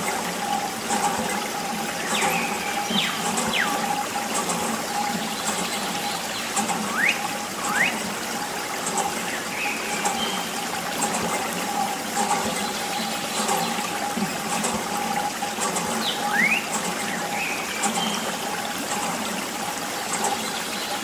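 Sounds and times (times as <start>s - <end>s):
water trickling and splashing: 0.0s - 21.0s.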